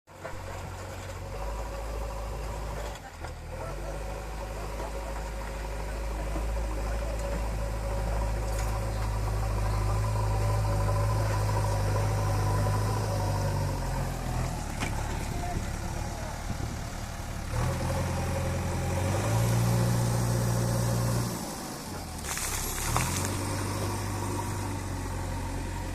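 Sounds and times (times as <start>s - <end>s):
diesel engine humming: 0.1s - 25.9s.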